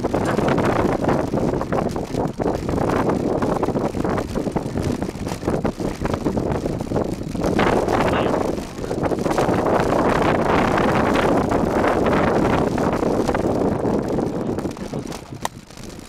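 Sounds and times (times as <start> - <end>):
bike rattling and knocking: 0.0 - 16.0
wind buffeting microphone: 0.0 - 16.0.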